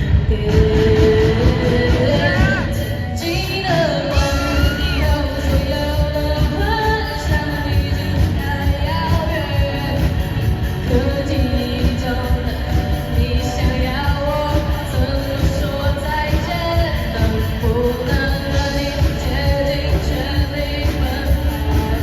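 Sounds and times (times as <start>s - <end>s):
pop rock song with singer: 0.0s - 22.0s.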